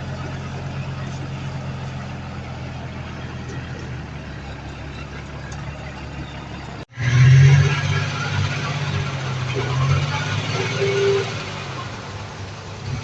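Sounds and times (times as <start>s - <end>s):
diesel machinery engine running: 0.0s - 13.0s
harsh rattling engine: 0.0s - 13.0s.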